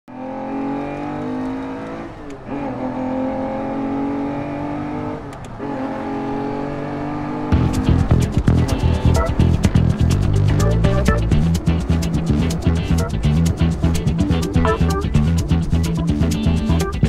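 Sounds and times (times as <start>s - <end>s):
engine droning: 0.1s - 17.0s.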